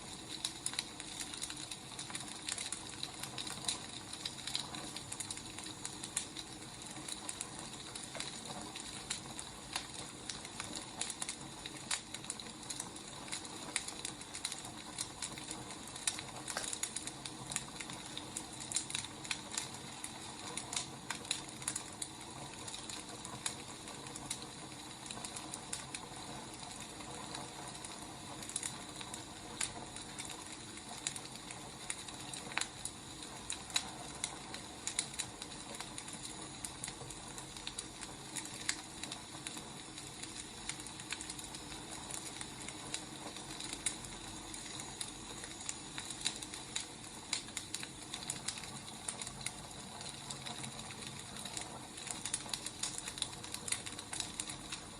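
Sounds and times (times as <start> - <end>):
fire hiss: 0.0 - 54.9
wood fire crackling: 0.0 - 54.9.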